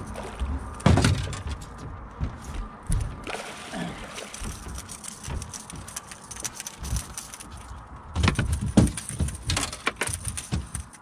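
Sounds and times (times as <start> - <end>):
footsteps on a boat deck: 0.0 - 9.7
knocks and thumps in a boat: 0.0 - 11.0.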